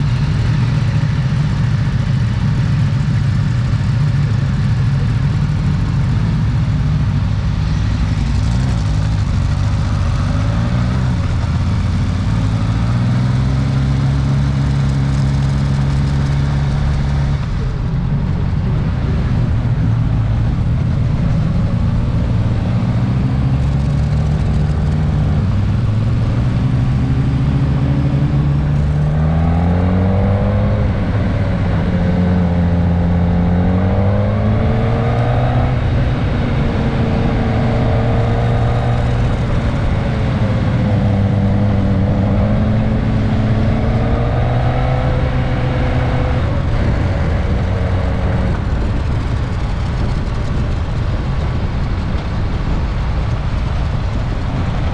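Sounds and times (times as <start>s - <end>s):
motorcycle engine revving: 0.0s - 54.9s
wind and road noise: 0.0s - 54.9s.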